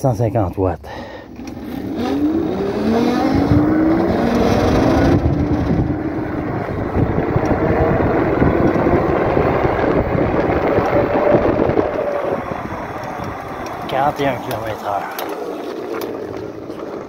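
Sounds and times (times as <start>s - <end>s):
electric motor whining: 1.3s - 17.0s
wind noise: 2.0s - 17.0s.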